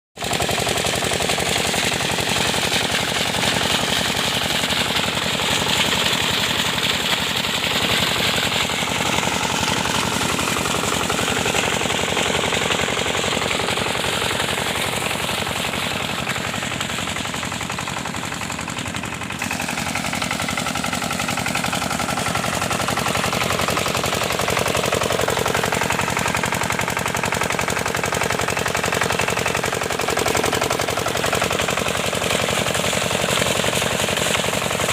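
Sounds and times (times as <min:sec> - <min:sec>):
water pump engine knocking: 0:00.2 - 0:34.9.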